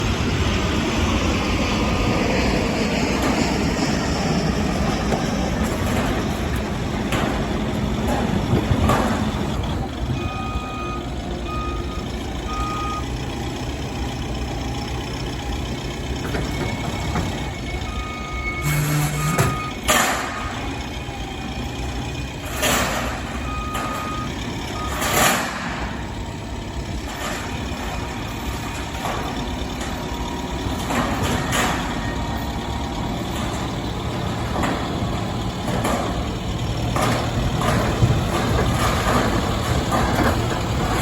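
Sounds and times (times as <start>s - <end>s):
heavy vehicle engine running: 0.0s - 41.0s
reversing alarm beeping: 2.4s - 41.0s.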